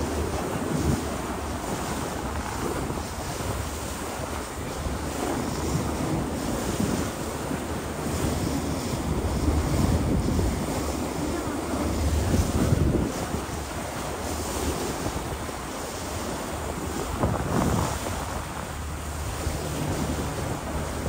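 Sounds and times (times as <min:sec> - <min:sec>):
boat rushing through water: 0:00.0 - 0:21.0
wind buffeting microphone: 0:00.0 - 0:21.0.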